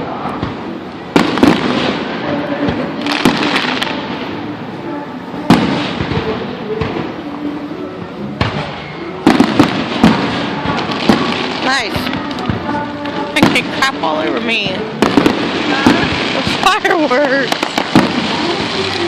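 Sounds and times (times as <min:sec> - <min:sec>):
fireworks bangs with crackle: 0:00.0 - 0:04.5, 0:05.3 - 0:07.4, 0:08.4 - 0:19.0
steady background hiss: 0:00.0 - 0:19.0.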